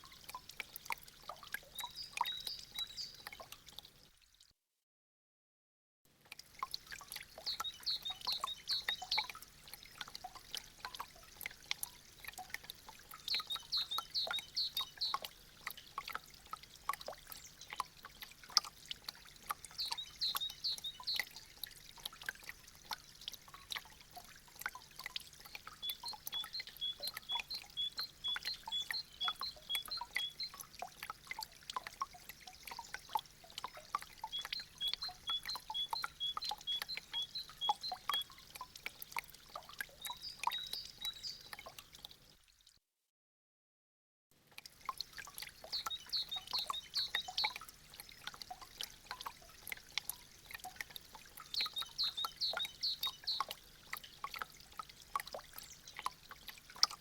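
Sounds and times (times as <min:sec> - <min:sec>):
water dripping: 0:00.0 - 0:04.5, 0:06.1 - 0:42.8, 0:44.4 - 0:57.0.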